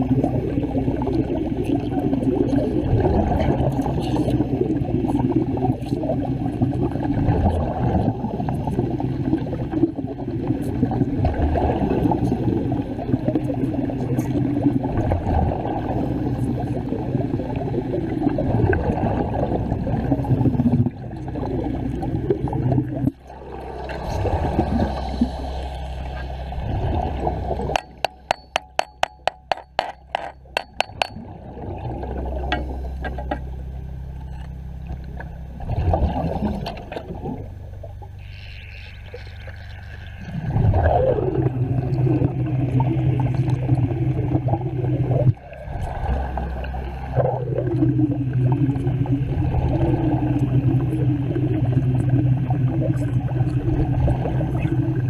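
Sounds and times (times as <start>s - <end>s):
underwater bubbling and gurgling: 0.0s - 55.0s.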